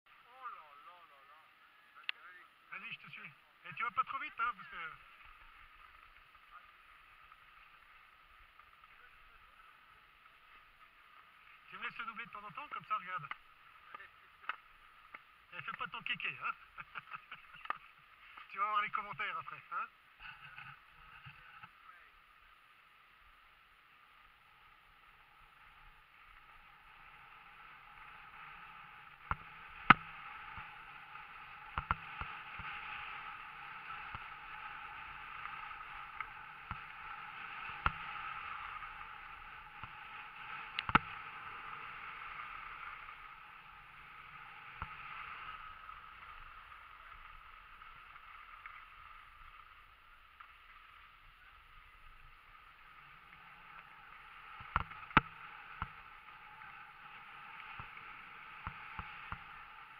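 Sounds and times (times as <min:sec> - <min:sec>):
skis scraping over snow: 0:02.7 - 0:59.9.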